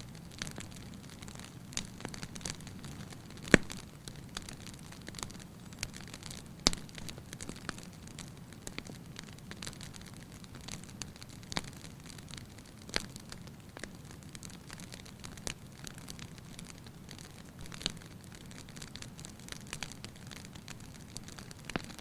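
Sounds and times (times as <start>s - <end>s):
fire crackling in fireplace: 0.0s - 22.0s.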